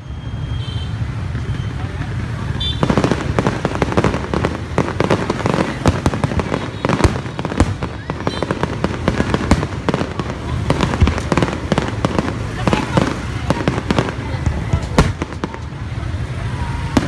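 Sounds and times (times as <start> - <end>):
fireworks bursting and crackling: 0.3 - 17.0.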